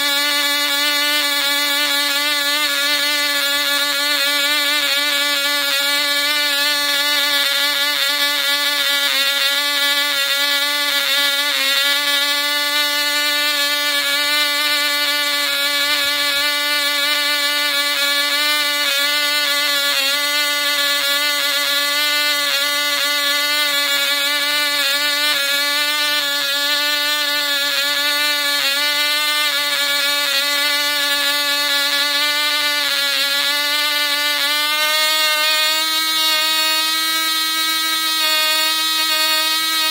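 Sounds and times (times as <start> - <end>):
model engine high-pitched whine: 0.0 - 39.9.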